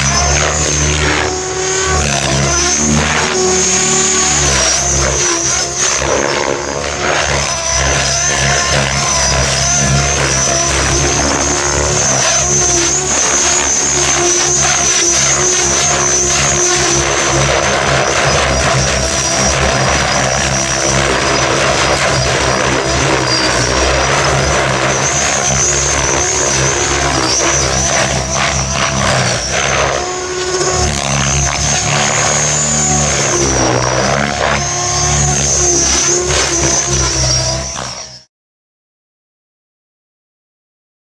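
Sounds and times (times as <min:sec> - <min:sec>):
rc helicopter motor whine: 0:00.0 - 0:38.3.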